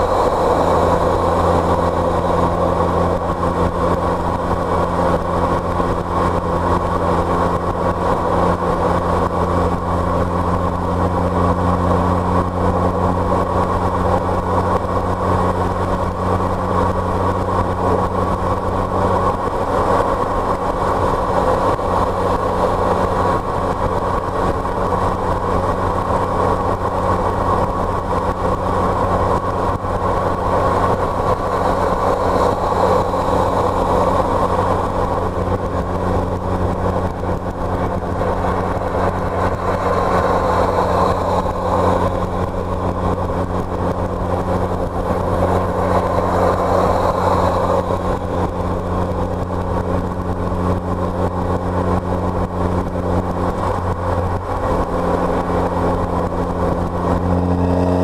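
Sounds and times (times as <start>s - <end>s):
car engine drone: 0.0s - 58.0s
road and tyre noise: 0.0s - 58.0s.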